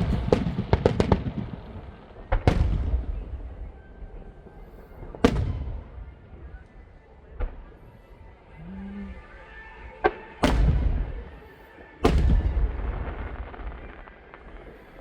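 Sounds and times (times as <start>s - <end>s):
fireworks cracking and booming: 0.0s - 15.0s.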